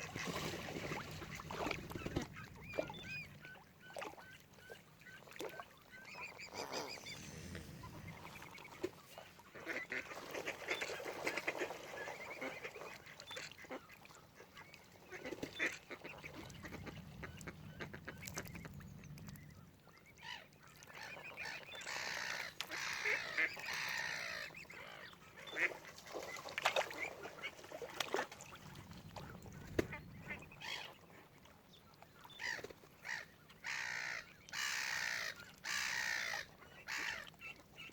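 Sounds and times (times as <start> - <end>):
waterfowl calling: 0.0 - 28.2, 32.2 - 37.9.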